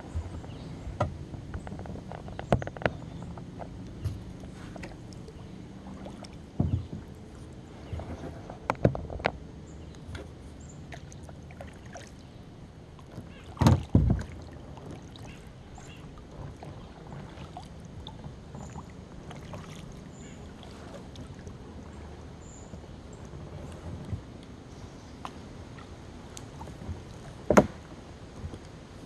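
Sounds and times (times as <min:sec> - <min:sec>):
paddle splashes and drips: 0:00.0 - 0:29.0
water against hull: 0:00.0 - 0:29.0.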